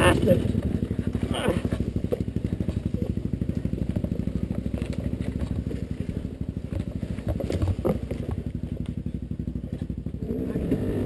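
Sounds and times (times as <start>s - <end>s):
dirt bike engine at low revs: 0.0s - 11.0s.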